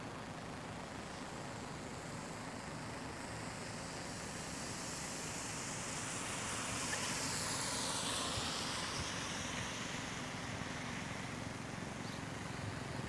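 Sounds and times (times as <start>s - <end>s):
car tyres hissing on wet road: 1.0s - 13.0s.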